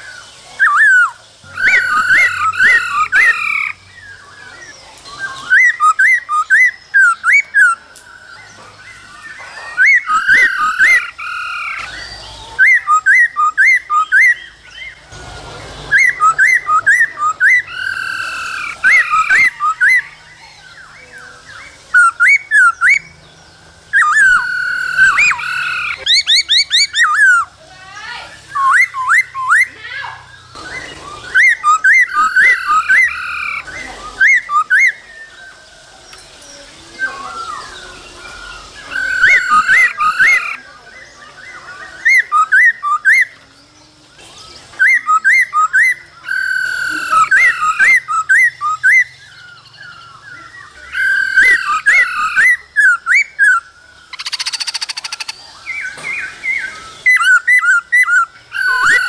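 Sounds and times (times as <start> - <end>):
bird singing whistled phrases: 0.0 - 15.0, 15.9 - 23.2, 23.9 - 59.0.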